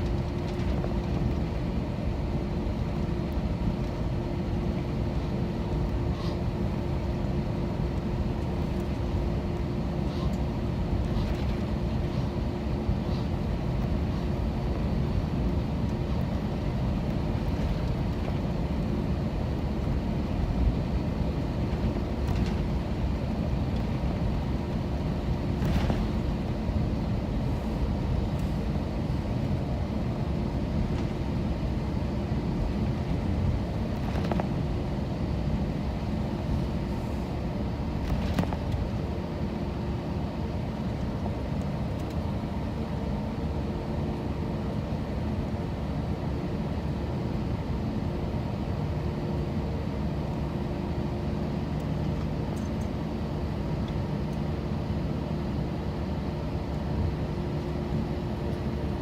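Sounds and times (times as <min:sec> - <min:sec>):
aircraft cabin rumble: 0:00.0 - 0:59.0
steady hum: 0:00.0 - 0:59.0.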